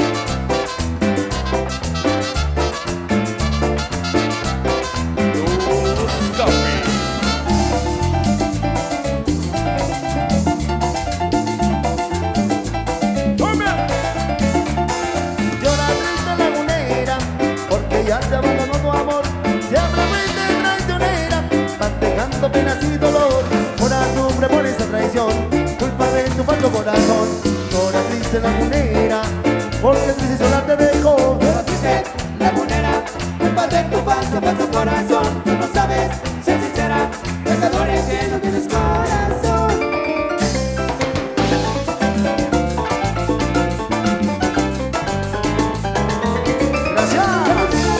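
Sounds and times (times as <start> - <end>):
band playing instrumental: 0.0 - 47.9.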